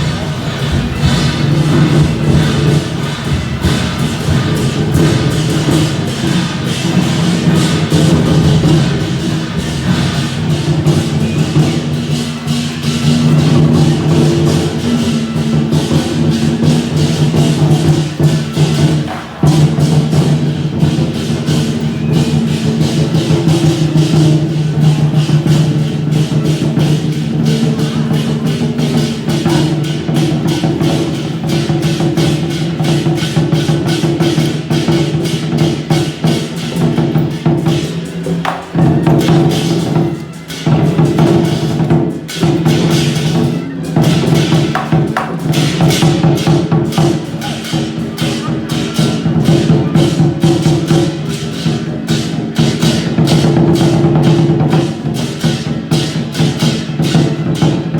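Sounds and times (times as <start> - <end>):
drums gongs and cymbals beating: 0.0 - 57.9.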